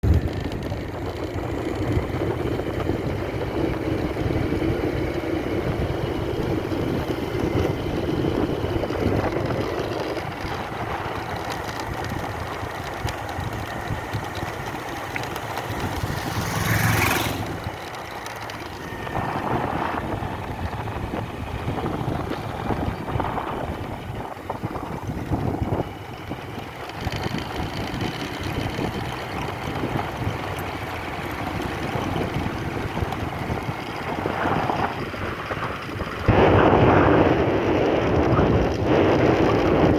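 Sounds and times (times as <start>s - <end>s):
wind on microphone: 0.0s - 14.8s, 18.7s - 39.9s
road rumble: 0.0s - 39.9s
vehicle engine: 0.0s - 39.9s.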